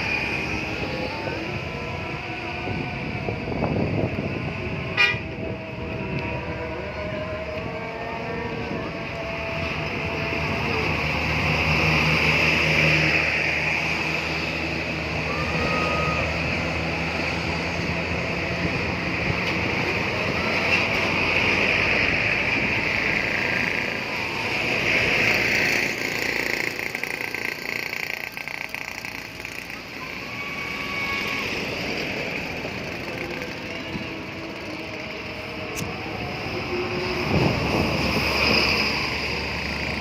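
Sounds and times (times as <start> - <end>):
road traffic with buses passing: 0.0 - 40.0.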